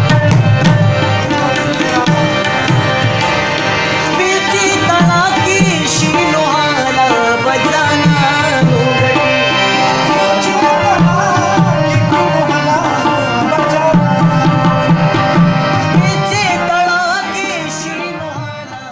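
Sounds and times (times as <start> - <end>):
tabla playing a rhythm: 0.0 - 18.9.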